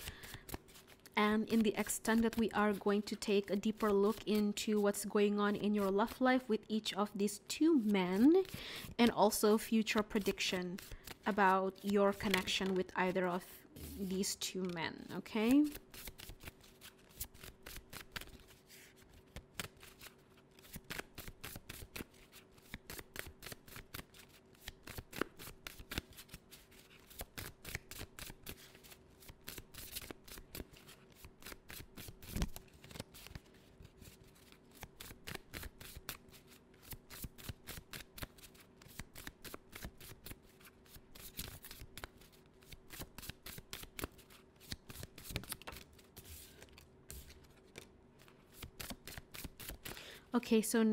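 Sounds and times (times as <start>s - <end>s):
cards being shuffled: 0.0s - 4.8s, 7.8s - 50.0s.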